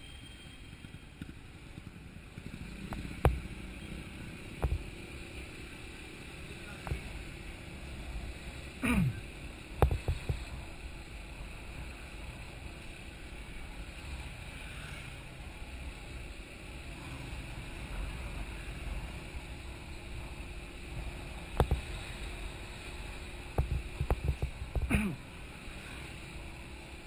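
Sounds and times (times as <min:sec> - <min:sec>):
motorcycle engine running: 0:00.2 - 0:27.0.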